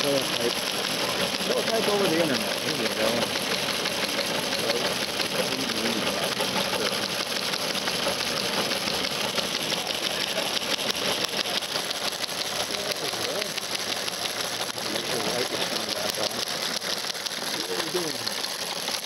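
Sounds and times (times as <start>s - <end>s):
teletype machine clattering: 0.0s - 19.0s.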